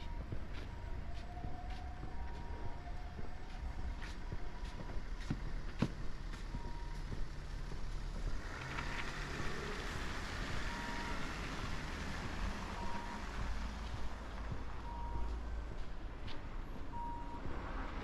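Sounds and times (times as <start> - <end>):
traffic engine rumble: 0.0 - 18.0.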